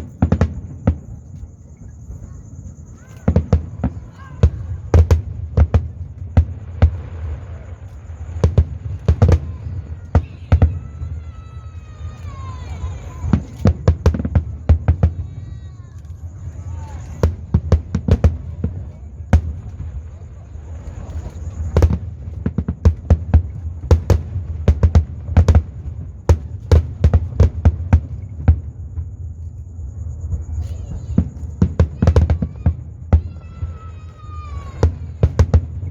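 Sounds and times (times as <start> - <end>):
fireworks booming: 0.0 - 35.9.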